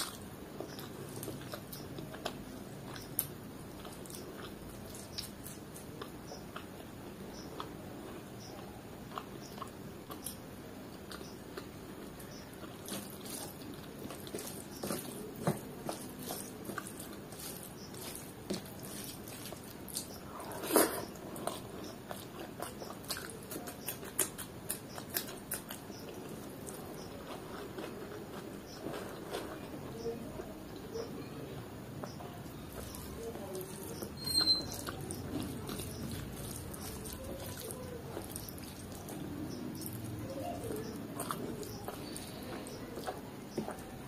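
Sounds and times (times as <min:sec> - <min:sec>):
chewing and mouth sounds: 0:00.0 - 0:31.3, 0:31.9 - 0:44.0
fingers mixing rice on plate: 0:00.0 - 0:44.0.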